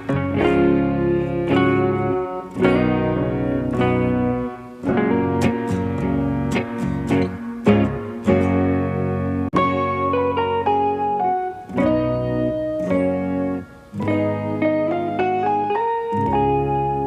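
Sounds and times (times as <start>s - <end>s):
plucked-string melody over chords: 0.0s - 17.0s.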